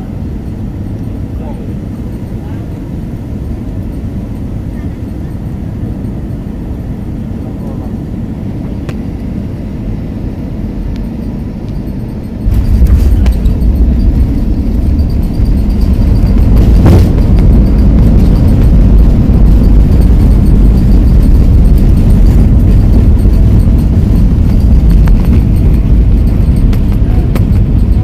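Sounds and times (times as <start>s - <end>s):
airliner low rumble: 0.0s - 28.0s.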